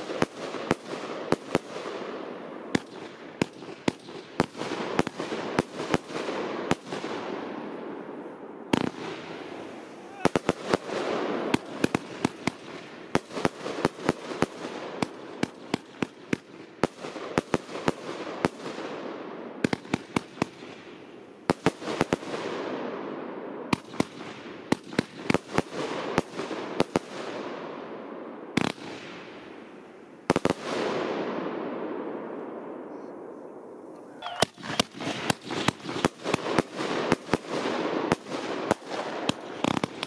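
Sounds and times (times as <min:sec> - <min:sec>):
fireworks bangs: 0:00.0 - 0:27.6, 0:28.5 - 0:40.0
fireworks hiss and crackle: 0:00.0 - 0:27.7, 0:32.9 - 0:40.0.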